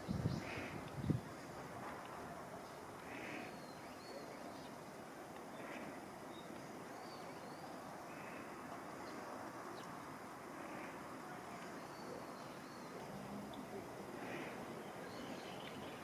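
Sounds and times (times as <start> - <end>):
faint outdoor rush: 0.0 - 16.0.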